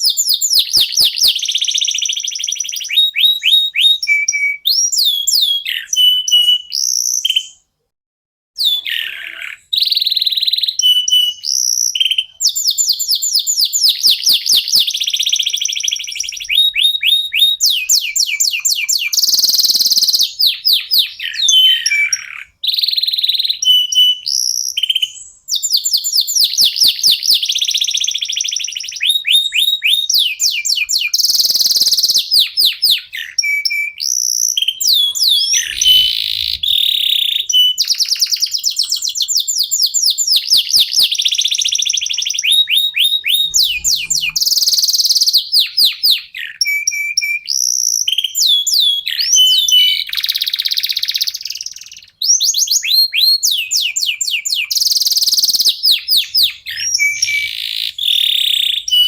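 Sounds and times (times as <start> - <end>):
canary singing trills: 0.0 - 7.6, 8.6 - 59.0.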